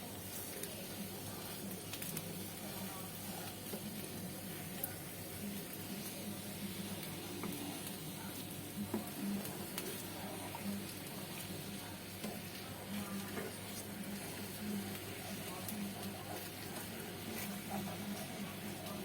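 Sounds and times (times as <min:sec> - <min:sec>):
tofu sizzling in hot oil: 0:00.0 - 0:19.0.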